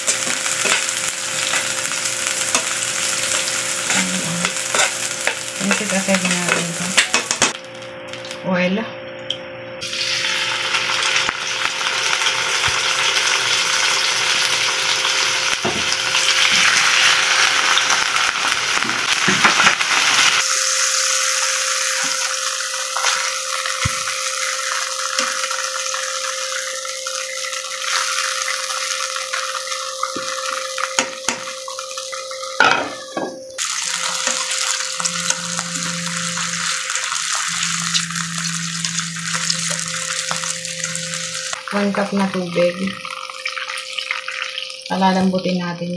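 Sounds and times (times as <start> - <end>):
meat sizzling in a frying pan: 0.0 - 7.6, 9.8 - 32.8, 33.6 - 45.2.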